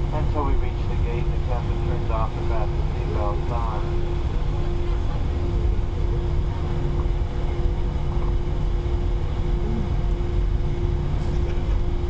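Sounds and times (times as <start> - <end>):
constant cabin hum: 0.0 - 12.0
jet engines rumbling: 0.0 - 12.0.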